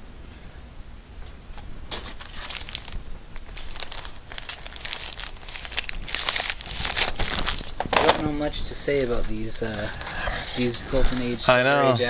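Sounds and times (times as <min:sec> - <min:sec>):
plastic bag crinkling: 0:01.2 - 0:11.8.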